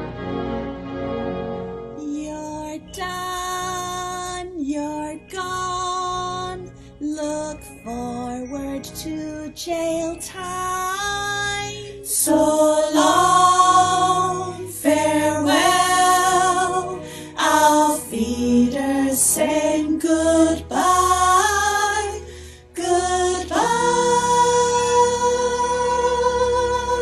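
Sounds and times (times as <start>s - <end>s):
musical accompaniment: 0.0s - 27.0s
person singing: 2.0s - 27.0s.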